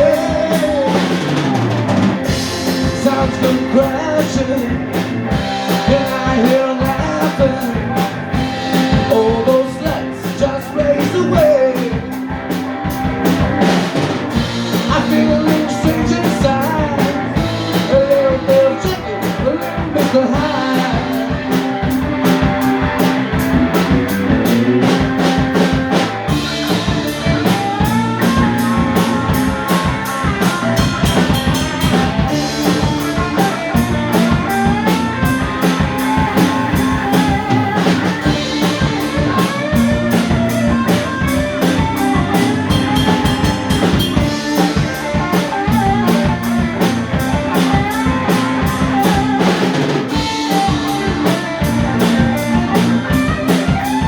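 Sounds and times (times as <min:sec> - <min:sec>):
bass: 0:00.0 - 0:54.0
drums: 0:00.0 - 0:54.0
electric guitar melody: 0:00.0 - 0:54.0
keyboards: 0:00.0 - 0:54.0.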